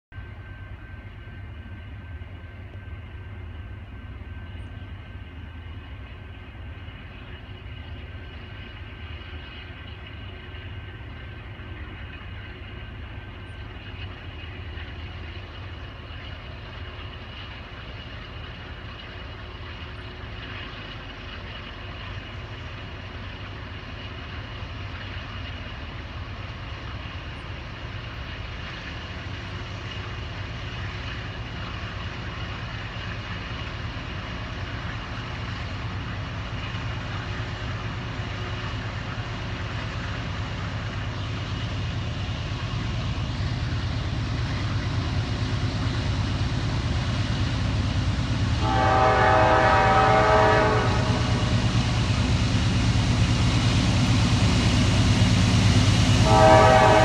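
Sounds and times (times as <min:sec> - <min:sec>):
distant freight train rumble: 0:00.0 - 0:57.0.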